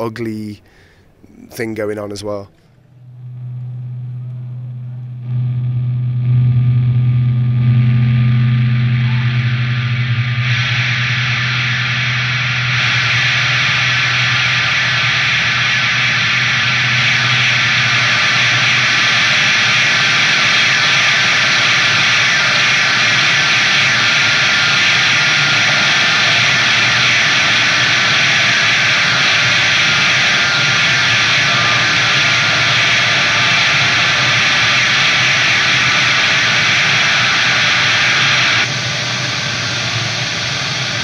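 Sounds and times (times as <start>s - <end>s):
low hum: 0.0s - 41.0s
distorted electric guitar feedback: 1.6s - 41.0s.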